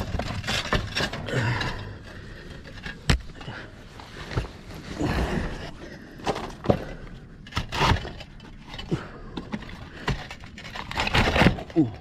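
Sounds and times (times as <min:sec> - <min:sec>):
roof tiles knocking and scraping: 0:00.0 - 0:12.0.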